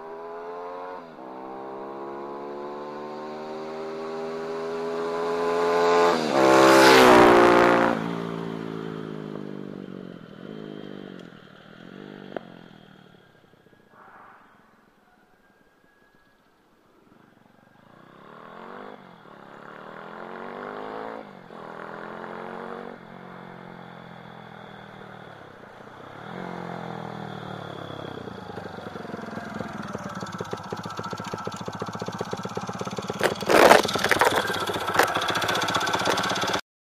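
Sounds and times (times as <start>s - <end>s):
mini-bike engine revving: 0.0s - 13.8s, 17.8s - 36.6s
motorbike passing by: 0.0s - 14.8s, 17.6s - 36.6s.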